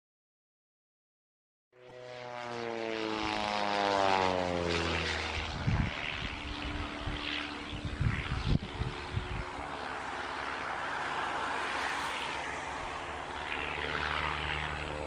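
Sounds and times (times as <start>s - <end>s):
propeller airplane flying past: 1.8s - 15.0s.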